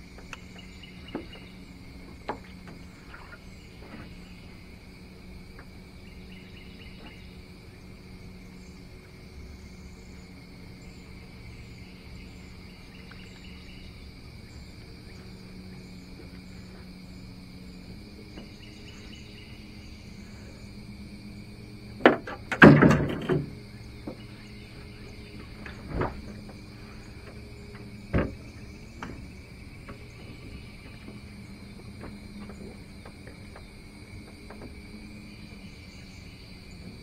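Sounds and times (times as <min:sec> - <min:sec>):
insects buzzing and chirping: 0:00.0 - 0:37.0
low steady hum: 0:00.0 - 0:37.0.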